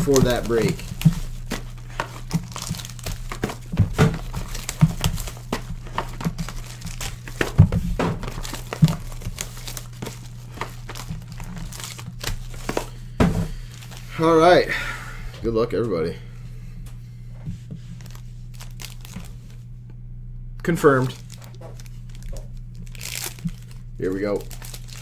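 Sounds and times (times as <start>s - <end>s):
foil and paper crinkling: 0.0s - 14.5s, 17.8s - 19.6s, 20.8s - 25.0s.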